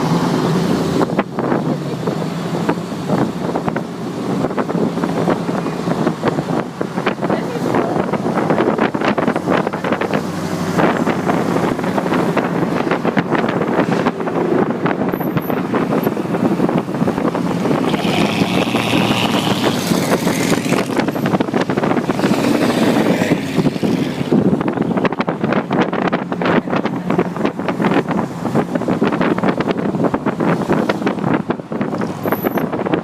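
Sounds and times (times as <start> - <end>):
vehicle rumble: 0.0 - 33.0
wind buffeting microphone: 0.0 - 33.0.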